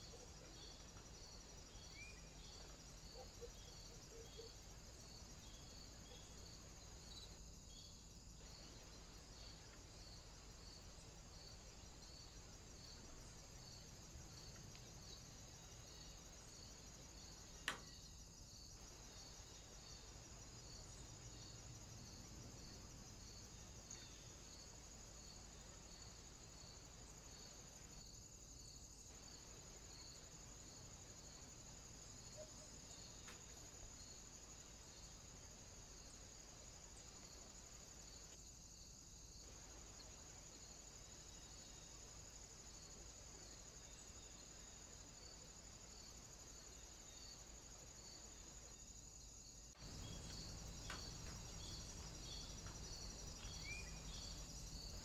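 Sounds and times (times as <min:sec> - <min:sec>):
faint high-pitched hiss: 0:00.0 - 0:55.0.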